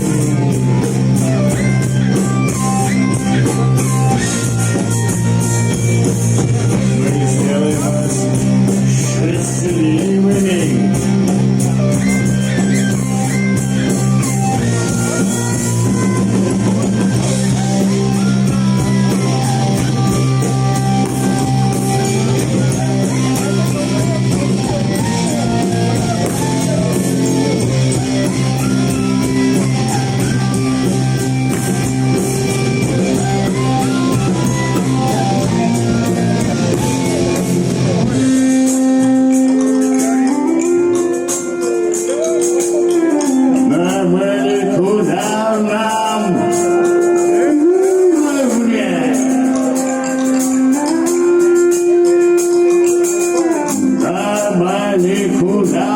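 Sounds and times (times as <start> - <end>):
bass guitar: 0.0 - 55.9
drum kit: 0.0 - 55.9
electric guitars: 0.0 - 55.9
live rock band playing: 0.0 - 55.9.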